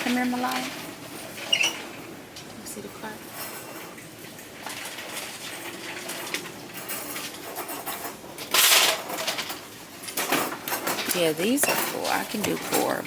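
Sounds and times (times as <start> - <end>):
items being handled: 0.0 - 13.0.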